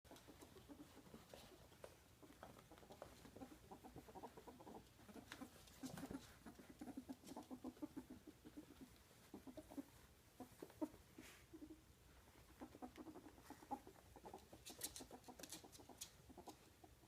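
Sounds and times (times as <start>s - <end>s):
ferret clucking: 0.1s - 17.0s.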